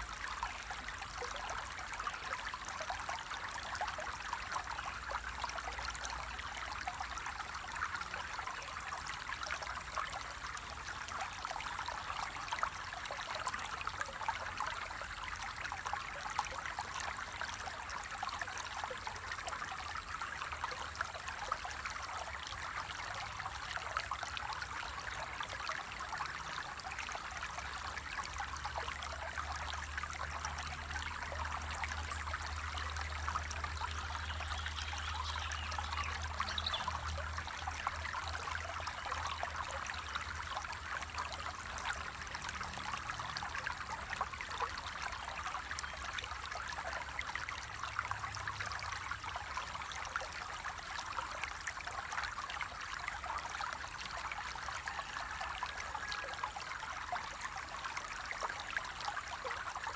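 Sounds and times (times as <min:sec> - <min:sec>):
water babbling over stones: 0:00.0 - 0:59.9.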